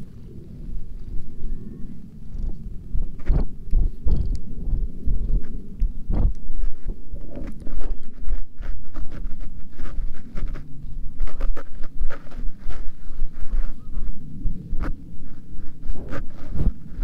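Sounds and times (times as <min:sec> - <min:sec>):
fur rustling against microphone: 0:02.2 - 0:17.0.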